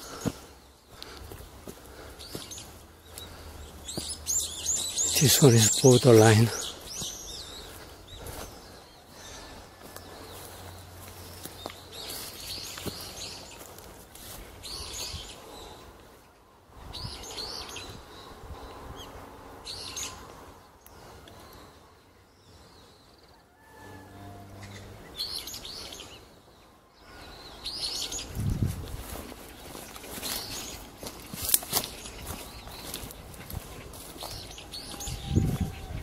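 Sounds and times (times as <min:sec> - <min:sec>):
songbird chirping: 0:00.0 - 0:36.0.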